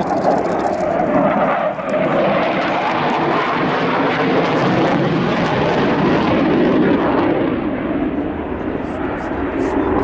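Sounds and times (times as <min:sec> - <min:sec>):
jet engine noise: 0:00.0 - 0:10.0.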